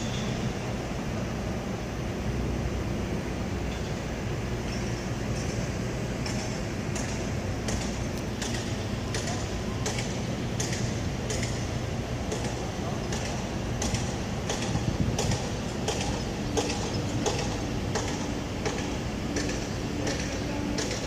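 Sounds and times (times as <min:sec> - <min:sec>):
train humming: 0:00.0 - 0:21.0.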